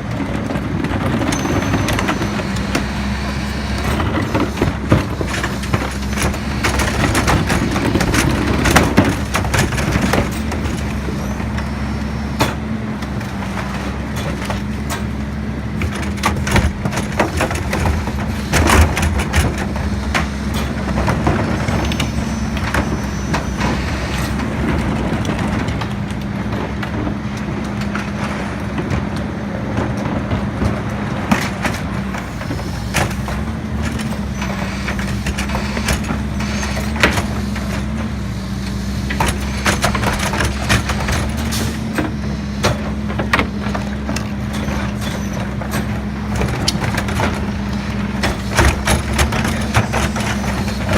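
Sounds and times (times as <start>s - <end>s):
garbage truck engine running: 0.0s - 50.9s.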